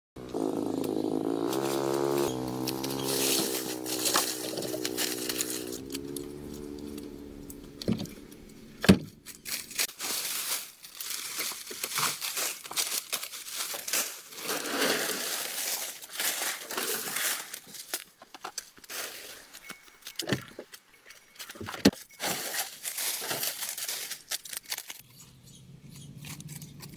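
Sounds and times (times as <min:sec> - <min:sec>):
rustling and crinkling: 0:01.6 - 0:26.9.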